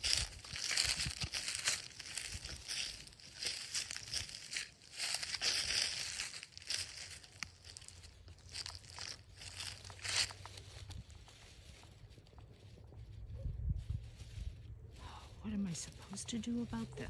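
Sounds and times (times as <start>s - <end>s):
leaves crunching underfoot: 0.0s - 17.0s.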